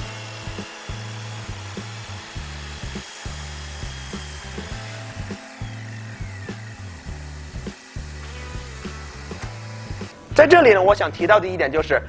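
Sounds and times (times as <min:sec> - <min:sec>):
miter saw whine: 0:00.0 - 0:10.3.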